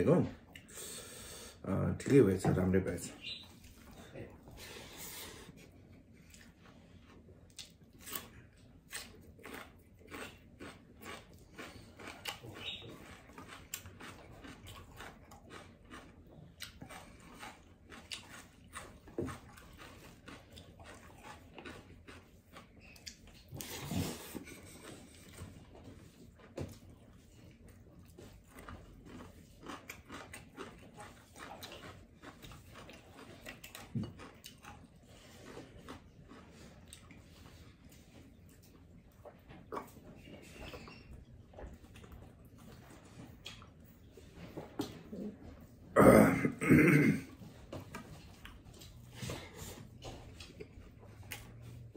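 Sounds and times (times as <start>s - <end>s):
person chewing wet mouth sounds: 0.0s - 1.6s, 3.1s - 51.9s.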